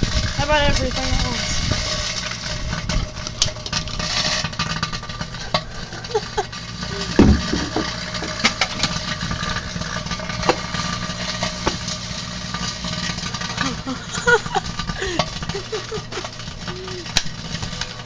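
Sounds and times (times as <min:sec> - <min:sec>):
microwave oven humming: 0:00.0 - 0:18.0
metal sparking snaps: 0:01.7 - 0:18.0.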